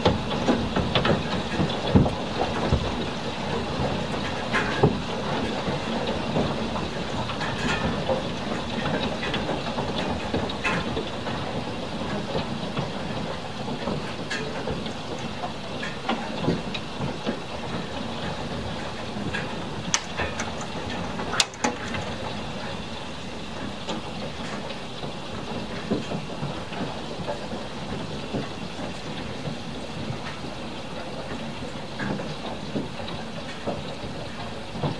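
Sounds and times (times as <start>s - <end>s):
hailstones knocking on hard surfaces: 0.0s - 30.5s
rain and hail falling: 0.0s - 34.9s.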